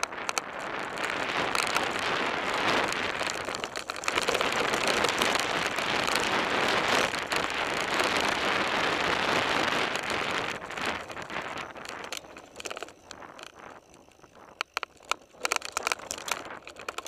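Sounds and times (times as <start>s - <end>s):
bike tyres rolling over gravel: 0.0s - 17.0s.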